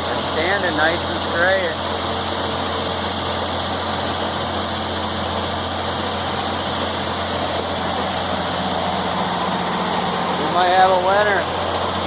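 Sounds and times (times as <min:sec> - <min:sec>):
circular sawmill blade spinning: 0:00.0 - 0:12.0.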